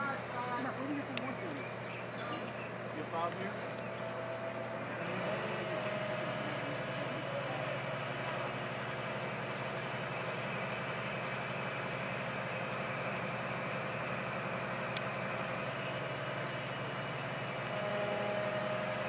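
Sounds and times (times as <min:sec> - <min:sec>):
diesel engine running steadily: 0:00.0 - 0:19.0.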